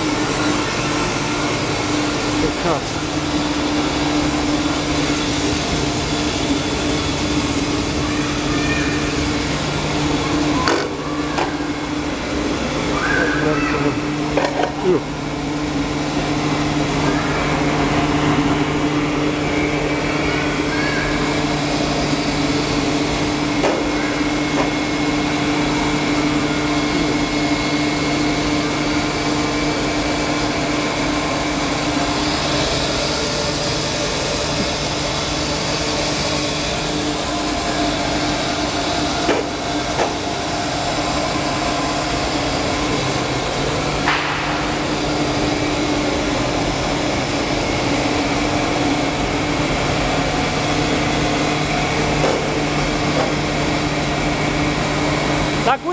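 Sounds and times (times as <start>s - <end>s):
foam splitting machine humming: 0.0s - 55.9s.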